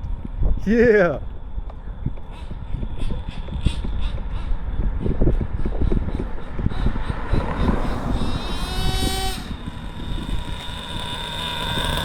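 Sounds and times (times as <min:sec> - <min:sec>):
rc truck engine high whine: 0:00.0 - 0:12.0.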